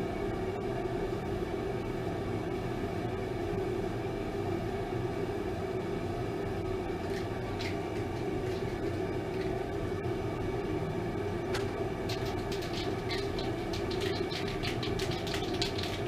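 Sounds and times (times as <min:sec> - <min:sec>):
shop equipment droning: 0:03.0 - 0:16.0.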